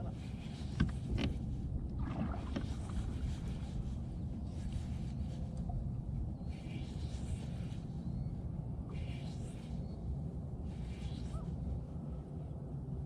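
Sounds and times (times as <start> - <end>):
boat engine low noise: 0.0 - 13.0.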